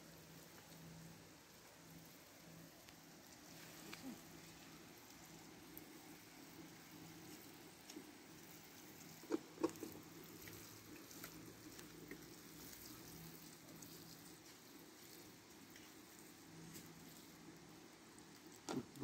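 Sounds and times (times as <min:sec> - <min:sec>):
water sprinkling onto soil: 0:00.0 - 0:19.0.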